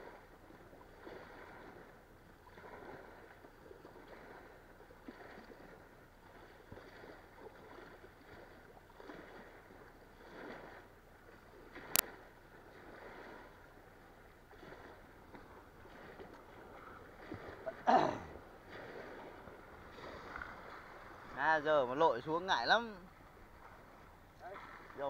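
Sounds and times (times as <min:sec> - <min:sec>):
small waves washing against stone: 0:00.9 - 0:25.0.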